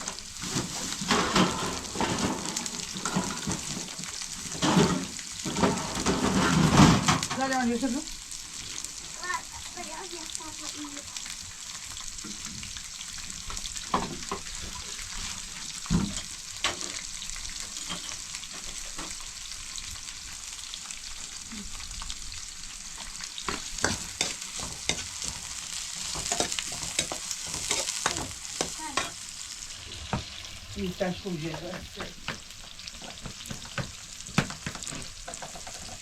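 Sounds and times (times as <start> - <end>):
steady sizzling hiss: 0.0 - 36.0.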